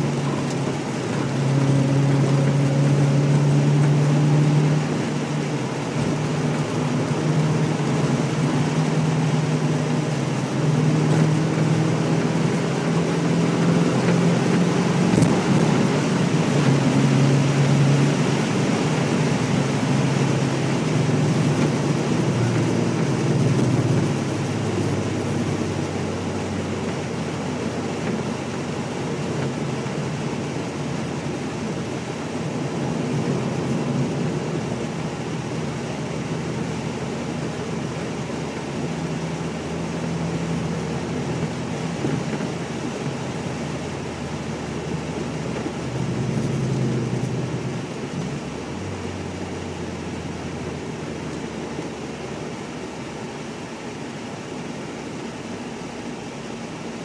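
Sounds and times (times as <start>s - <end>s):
wind rush: 0.0s - 49.2s
car engine running steadily: 0.0s - 57.0s.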